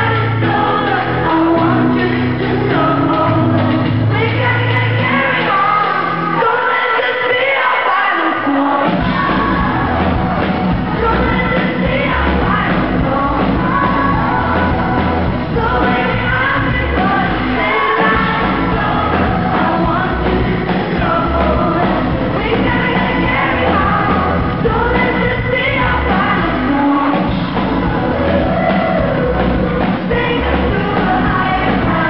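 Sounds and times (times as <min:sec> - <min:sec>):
woman singing: 0:00.0 - 0:32.0.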